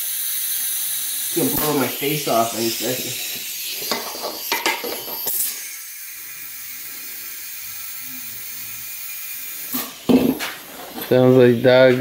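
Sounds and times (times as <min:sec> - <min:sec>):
compressed air hissing into tire: 0:00.0 - 0:11.0.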